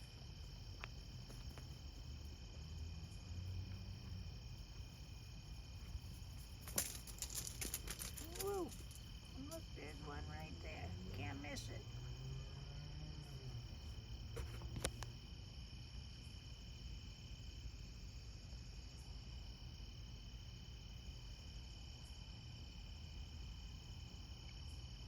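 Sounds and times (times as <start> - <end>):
crickets chirring: 0.0 - 25.0
faint low hum: 0.0 - 25.0.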